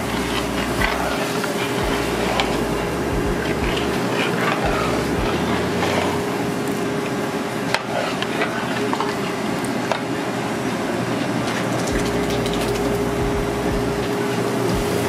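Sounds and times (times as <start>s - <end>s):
kitchen hum: 0.0s - 15.0s.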